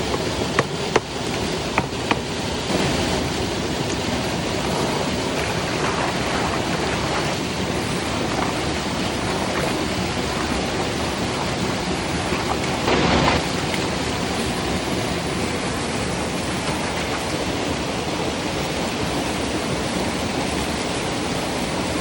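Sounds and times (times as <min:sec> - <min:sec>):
water falling and running: 0:00.0 - 0:22.0.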